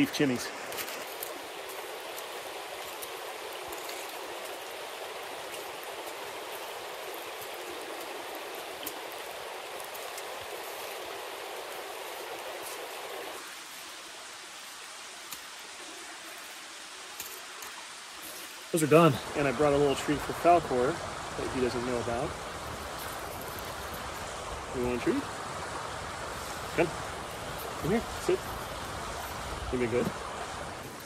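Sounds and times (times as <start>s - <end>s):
campfire crackling and popping: 0.0s - 13.6s, 14.6s - 15.9s, 16.7s - 31.0s.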